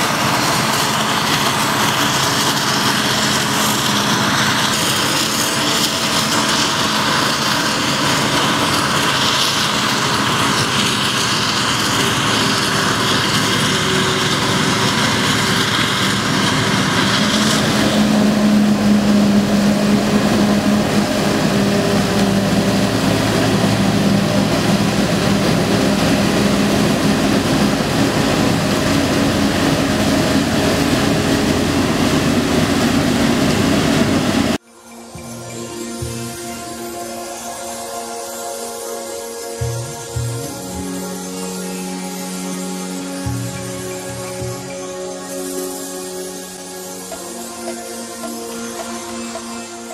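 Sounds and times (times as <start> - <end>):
forage harvester engine drone: 0.0 - 49.9
high machine hiss: 0.0 - 49.9.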